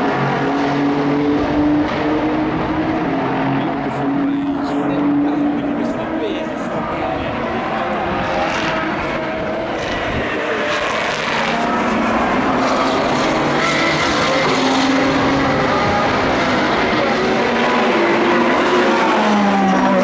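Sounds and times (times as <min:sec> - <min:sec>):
car engines running: 0:00.0 - 0:20.0.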